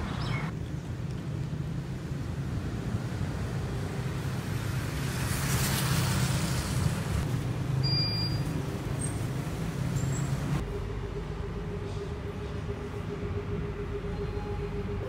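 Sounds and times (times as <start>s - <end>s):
low traffic engine hum: 0.0s - 15.0s.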